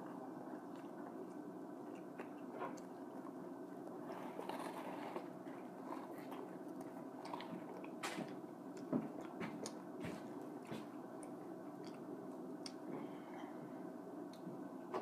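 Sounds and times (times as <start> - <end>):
person chewing food: 0.0 - 14.7.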